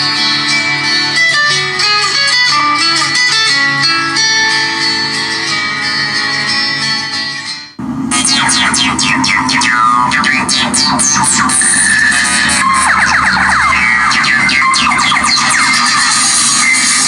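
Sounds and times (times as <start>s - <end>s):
plucked guitar ringtone: 0.0s - 17.0s.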